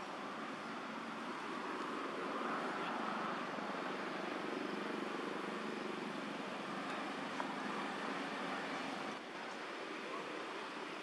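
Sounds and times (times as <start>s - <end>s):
steady hiss and hum: 0.0s - 11.0s.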